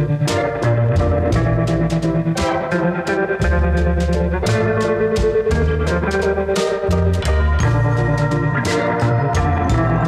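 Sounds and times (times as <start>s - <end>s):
instrumental rock music: 0.0s - 10.0s.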